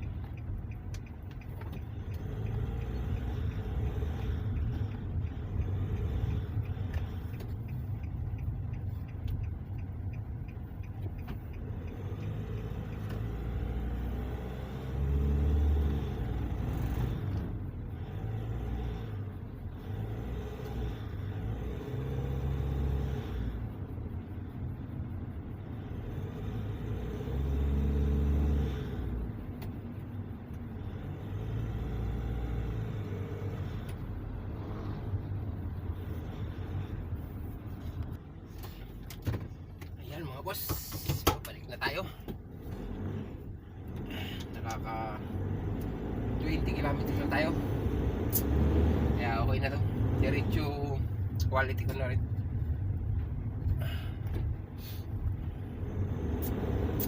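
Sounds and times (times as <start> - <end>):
vehicle driving on road: 0.0 - 57.0.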